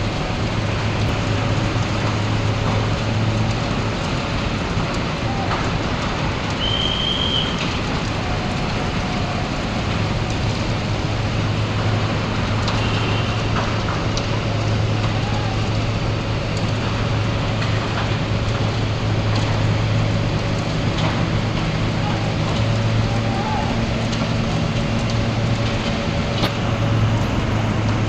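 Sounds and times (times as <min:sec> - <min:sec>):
crane diesel engine running: 0:00.0 - 0:28.0.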